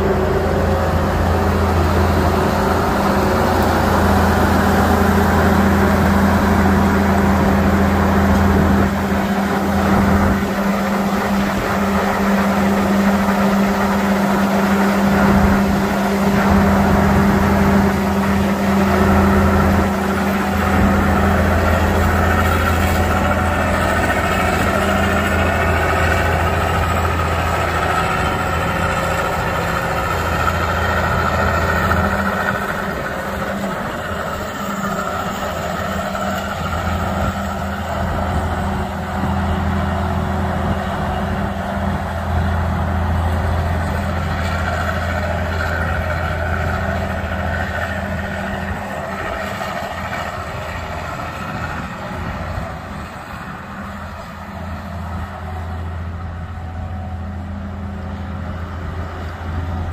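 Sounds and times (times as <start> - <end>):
combine diesel engine running: 0.0 - 59.9.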